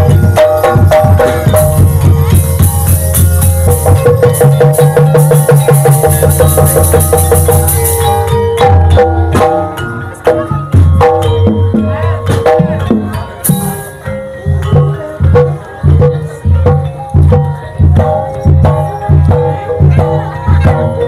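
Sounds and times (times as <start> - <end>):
drums: 0.0 - 21.0
metallophone notes: 0.0 - 21.0.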